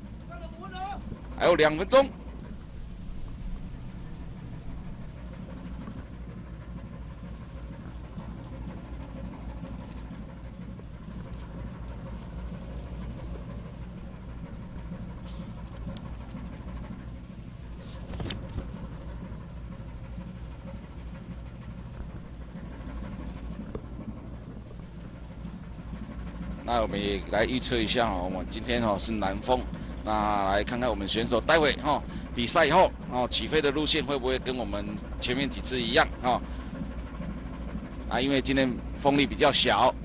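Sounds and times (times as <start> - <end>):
ship engine humming: 0.0 - 40.0.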